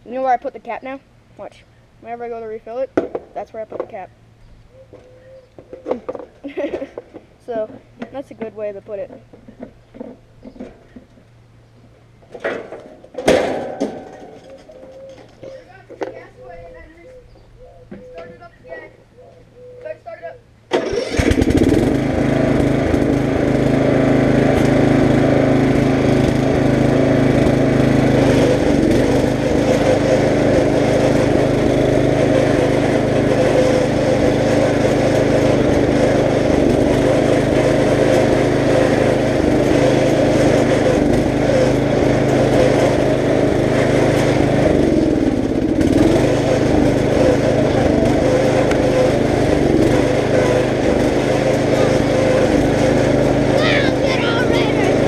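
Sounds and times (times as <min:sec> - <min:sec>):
riding lawn mower engine: 0:00.0 - 0:55.0.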